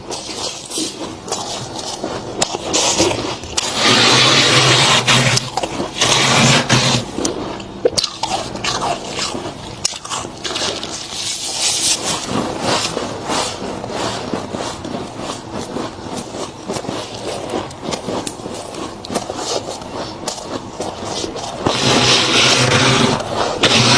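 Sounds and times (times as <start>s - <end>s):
freezer frost crunching and scraping: 0.0s - 23.9s.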